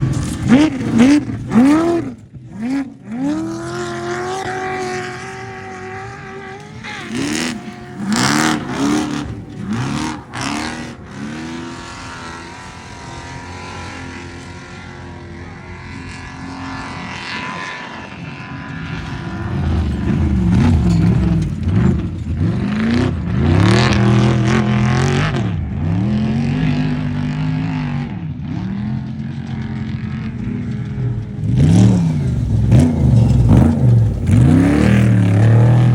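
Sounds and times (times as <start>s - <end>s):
race truck engine revving: 0.0s - 35.9s.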